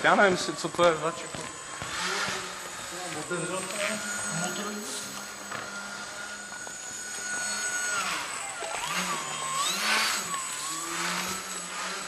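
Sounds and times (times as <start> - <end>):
electric motor and propeller whirring: 0.0 - 12.0.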